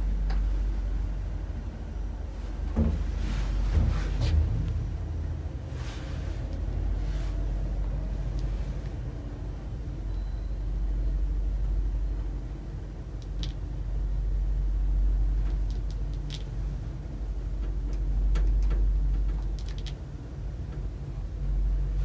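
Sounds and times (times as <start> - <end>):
elevator low rumble: 0.0 - 22.0.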